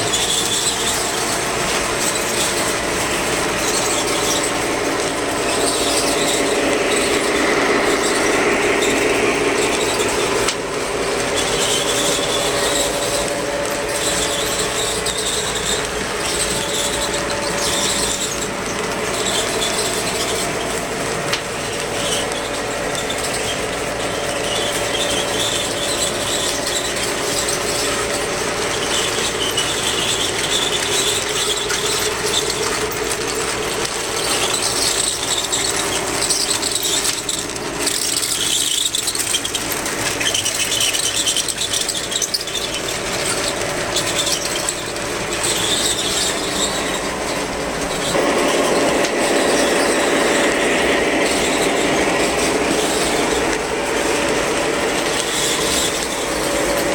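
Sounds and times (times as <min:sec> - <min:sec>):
model train motor hum: 0:00.0 - 0:56.9
wheels clattering over rail joints: 0:00.0 - 0:56.9
wheels squealing on curves: 0:00.0 - 0:56.9.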